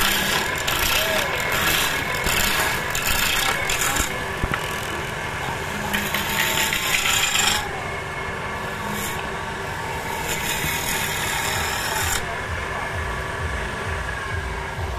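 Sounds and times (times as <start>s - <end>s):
chisel scraping wood on lathe: 0.0s - 12.4s.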